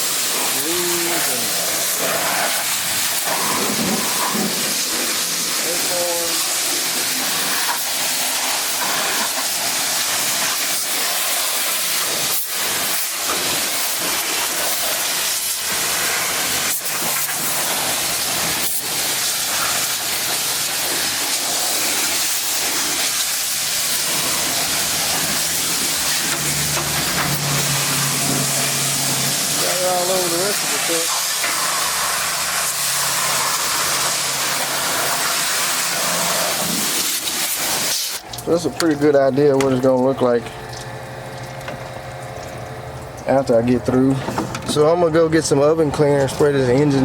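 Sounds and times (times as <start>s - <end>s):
pressure washer spraying: 0.0s - 47.0s.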